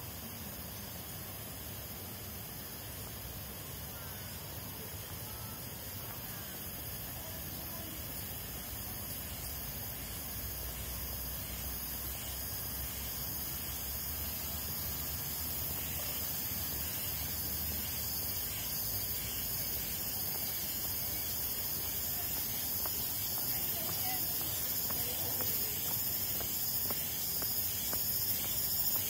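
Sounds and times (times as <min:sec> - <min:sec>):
steady ambient hiss: 0:00.0 - 0:29.0.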